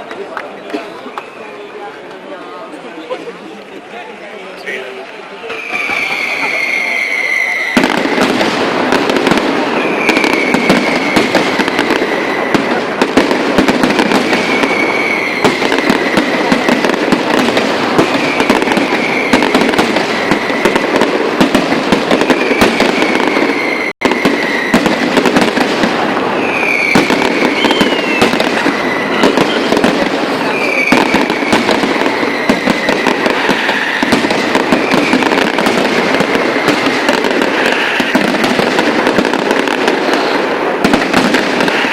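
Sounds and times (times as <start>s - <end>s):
fireworks crackling: 0.0s - 41.9s
descending firework whistle: 5.4s - 41.9s.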